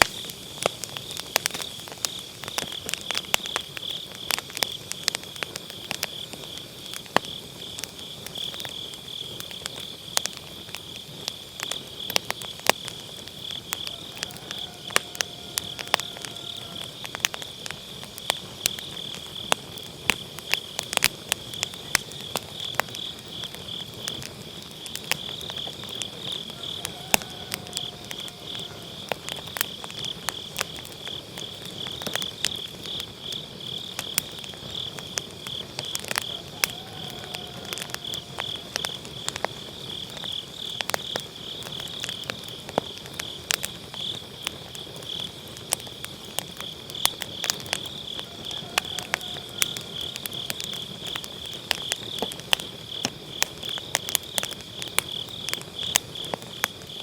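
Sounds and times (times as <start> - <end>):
insects chirping: 0.0 - 57.0
wood fire crackling: 0.0 - 57.0.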